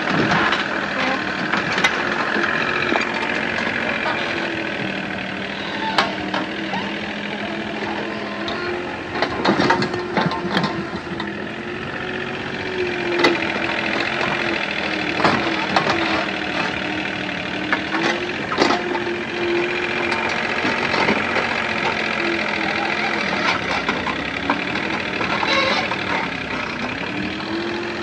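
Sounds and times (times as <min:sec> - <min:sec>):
motor humming: 0:00.0 - 0:28.0.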